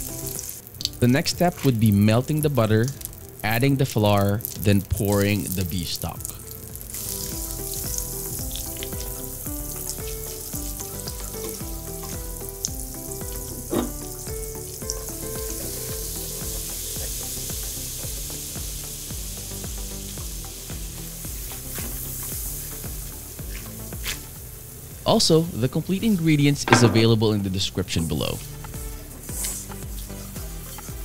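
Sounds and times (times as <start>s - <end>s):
butter sizzling in a pan: 0.0s - 25.1s, 28.2s - 31.0s
background music with steady beat: 0.0s - 31.0s.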